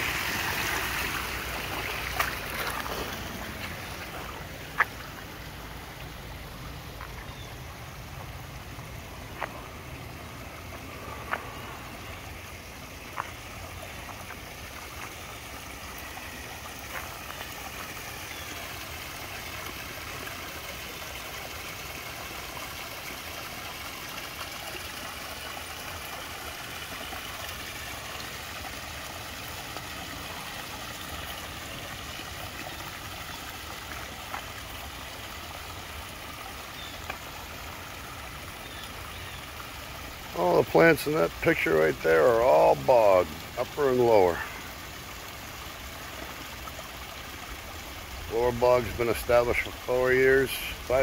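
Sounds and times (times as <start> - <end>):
water splashing over stones: 0.0 - 51.0.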